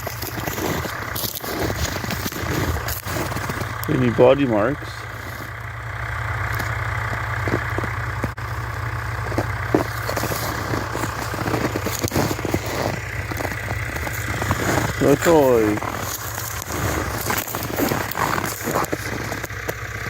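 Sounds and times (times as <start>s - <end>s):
footsteps crunching in snow: 0.0s - 4.1s, 5.0s - 5.7s, 6.4s - 20.0s
low engine rumble: 0.0s - 20.0s.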